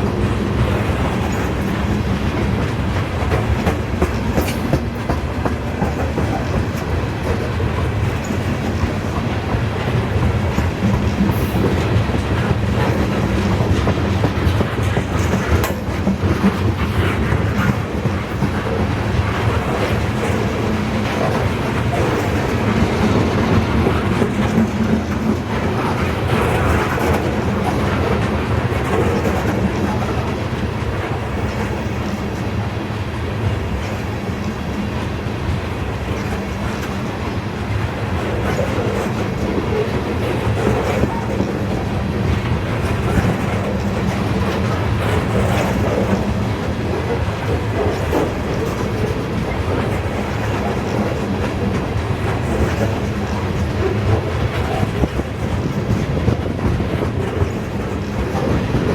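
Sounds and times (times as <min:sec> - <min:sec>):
freight train rolling past: 0:00.0 - 0:58.9.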